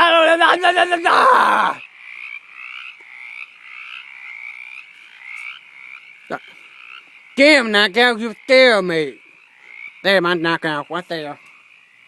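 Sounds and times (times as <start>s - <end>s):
frogs croaking: 0.0s - 12.0s
low pulsing frog call: 0.0s - 12.0s.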